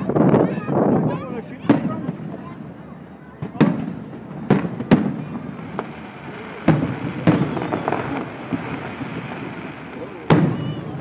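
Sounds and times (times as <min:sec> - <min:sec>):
firework bangs with rumbling echo: 0:00.0 - 0:11.0.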